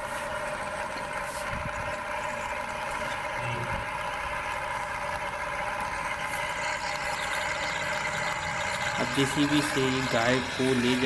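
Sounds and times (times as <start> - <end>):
engine idling drone: 0.0 - 11.0.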